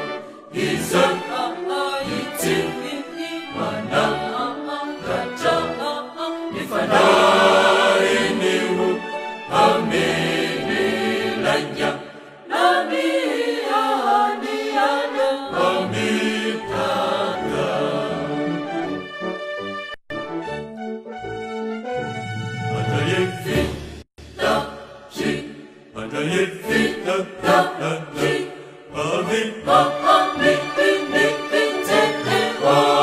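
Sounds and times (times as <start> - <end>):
choir singing: 0.0 - 18.9, 22.6 - 23.8, 24.4 - 33.0.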